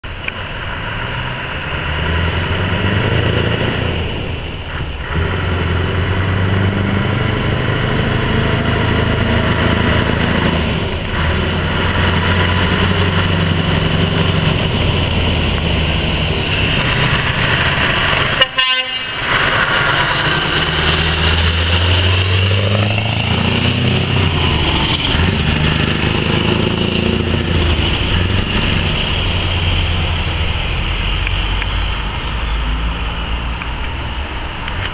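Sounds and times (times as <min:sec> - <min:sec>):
diesel truck engine: 0:00.0 - 0:34.9.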